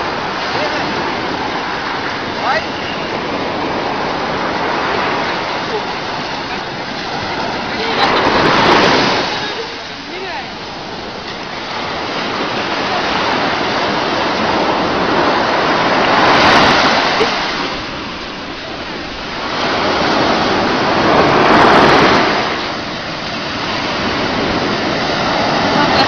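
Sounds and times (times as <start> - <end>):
sea surf rushing: 0.0 - 26.0
waves breaking: 0.0 - 26.0.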